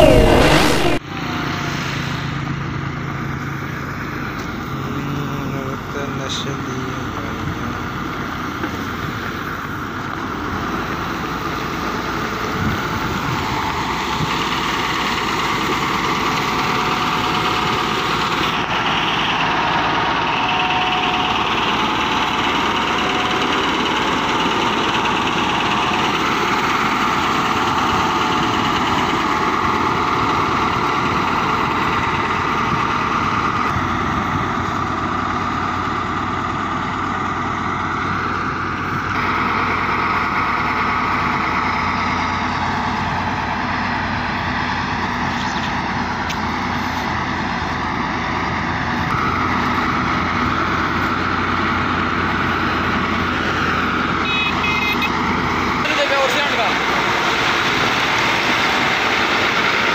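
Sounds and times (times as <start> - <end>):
diesel engine running: 0.0 - 59.9
grader blade spreading gravel: 3.2 - 54.5, 55.2 - 59.9.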